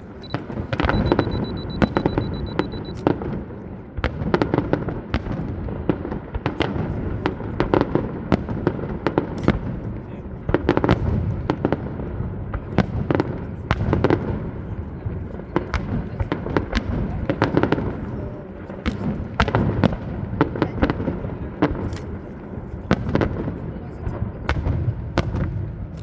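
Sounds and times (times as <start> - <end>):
fireworks bangs and crackles: 0.0 - 26.0
low rumble of launches: 0.0 - 26.0.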